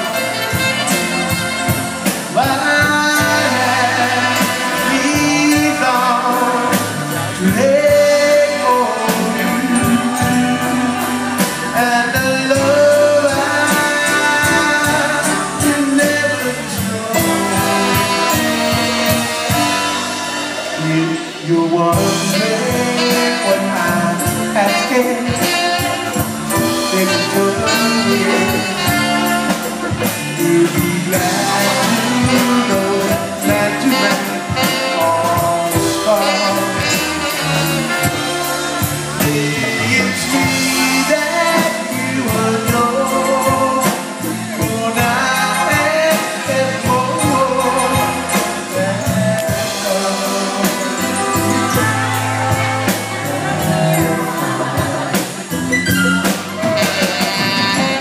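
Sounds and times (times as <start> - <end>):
drum kit: 0.0 - 58.0
electric guitar: 0.0 - 58.0
saxophone: 0.0 - 58.0
trombone: 0.0 - 58.0
trumpet: 0.0 - 58.0.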